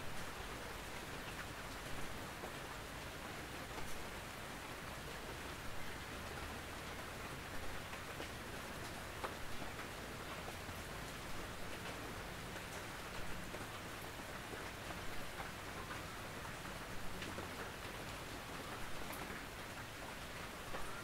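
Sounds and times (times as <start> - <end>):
rain on a tin roof: 0.0 - 21.0.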